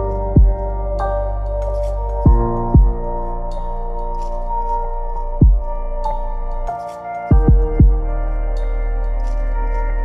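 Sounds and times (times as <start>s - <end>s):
ambient music sustained chords: 0.0s - 10.0s.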